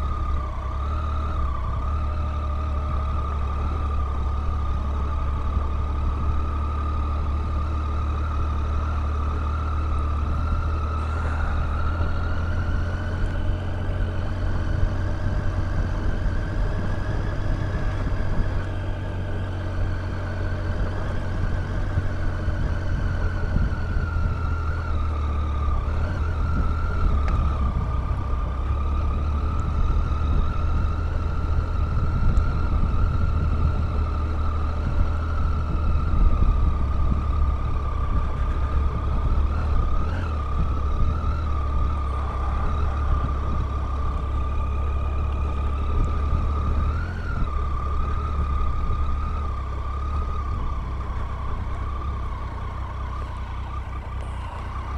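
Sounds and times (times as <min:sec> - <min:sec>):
high engine whine: 0:00.0 - 0:54.9
motorcycle engine running: 0:00.0 - 0:54.9.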